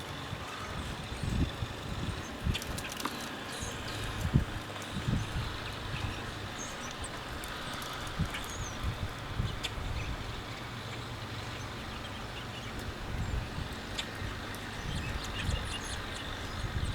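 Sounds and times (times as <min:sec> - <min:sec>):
wind buffeting microphone: 0:00.2 - 0:16.9.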